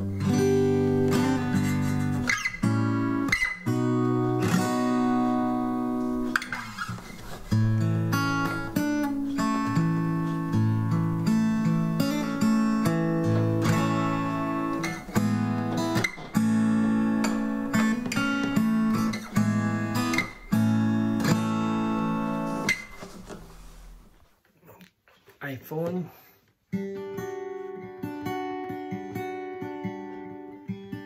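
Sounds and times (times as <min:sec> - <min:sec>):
acoustic guitar strumming chords: 0:00.0 - 0:24.0, 0:26.7 - 0:31.0.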